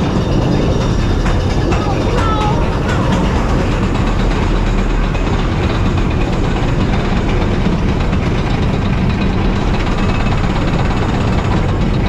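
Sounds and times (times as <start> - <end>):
continuous clattering rattle: 0.0 - 12.0
ride lift mechanical rumble: 0.0 - 12.0.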